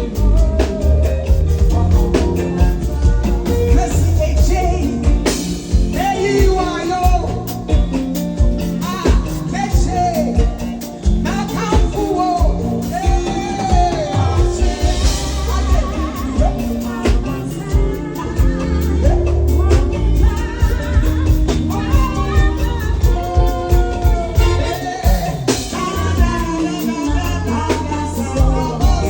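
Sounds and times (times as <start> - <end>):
heavy bass: 0.0 - 29.0
person singing: 0.0 - 29.0
steady drum beat: 0.0 - 29.0.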